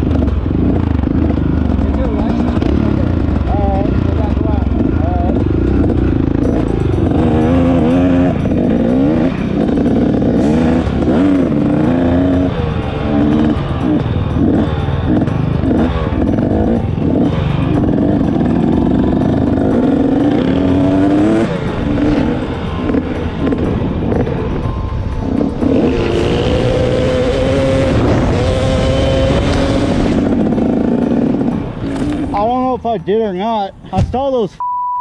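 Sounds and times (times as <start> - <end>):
motorcycle engine accelerating: 0.0 - 34.3.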